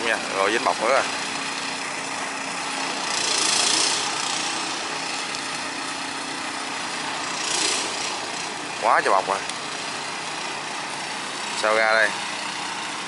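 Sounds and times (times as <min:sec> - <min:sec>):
boat diesel engine running: 0:00.0 - 0:13.0
hissing water churn: 0:00.0 - 0:13.0.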